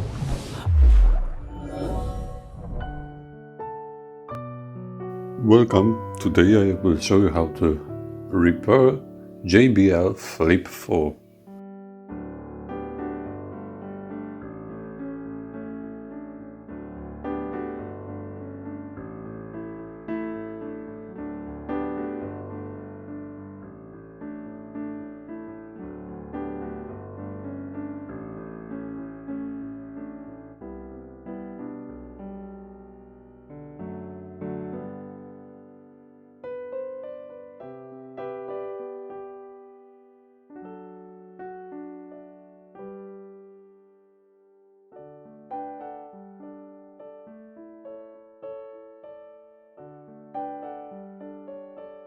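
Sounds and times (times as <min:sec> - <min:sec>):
soft electric piano music: 0:02.4 - 0:52.0.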